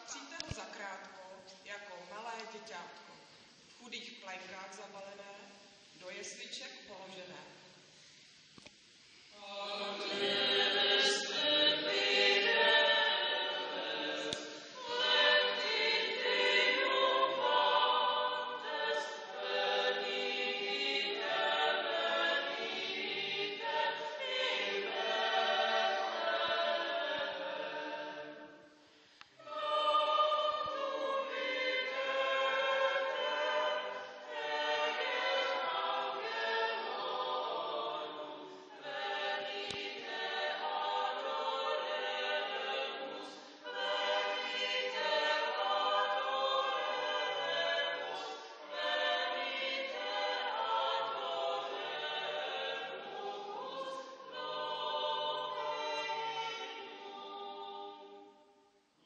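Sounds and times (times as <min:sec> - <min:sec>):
choir singing: 0:09.3 - 0:28.8, 0:29.4 - 0:58.6.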